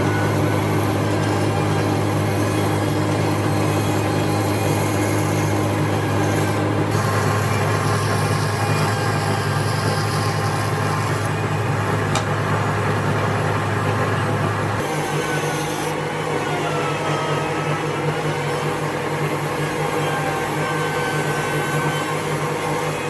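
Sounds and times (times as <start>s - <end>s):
machine motor droning: 0.0s - 23.0s.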